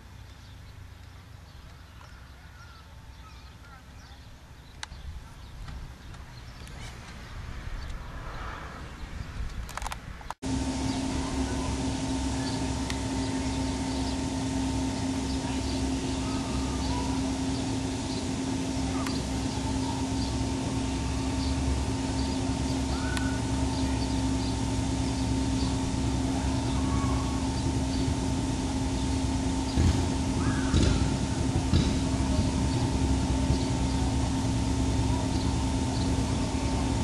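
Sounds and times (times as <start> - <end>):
fire truck engine and pump running: 0.0 - 8.0, 9.4 - 37.0.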